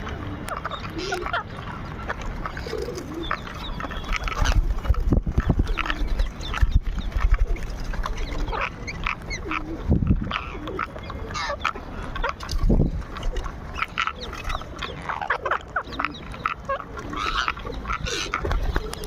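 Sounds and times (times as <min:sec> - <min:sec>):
parrots squawking and chirping: 0:00.5 - 0:07.2, 0:08.1 - 0:12.7, 0:13.7 - 0:19.0.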